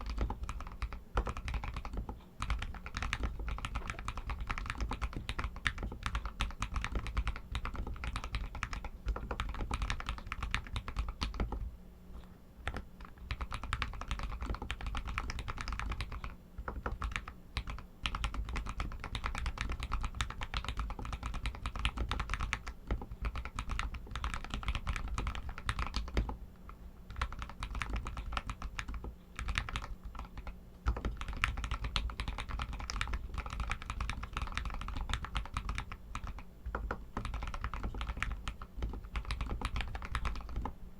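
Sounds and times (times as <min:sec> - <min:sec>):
mechanical keyboard typing: 0:00.0 - 0:11.7, 0:12.6 - 0:26.4, 0:27.1 - 0:40.7.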